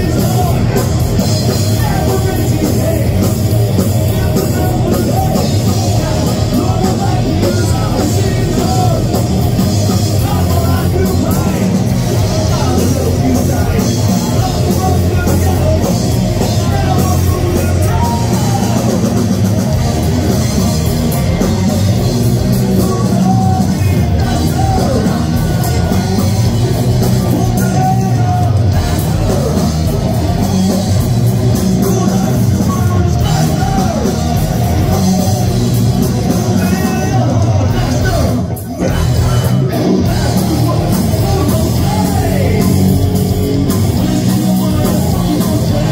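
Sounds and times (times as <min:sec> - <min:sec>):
person singing: 0:00.0 - 0:19.4, 0:21.4 - 0:45.9
bass guitar: 0:00.0 - 0:45.9
distorted electric guitars: 0:00.0 - 0:45.9
drum kit: 0:00.0 - 0:45.9.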